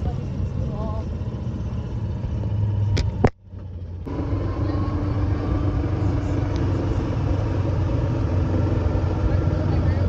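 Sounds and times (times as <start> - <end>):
golf cart rumbling: 0.0 - 10.0.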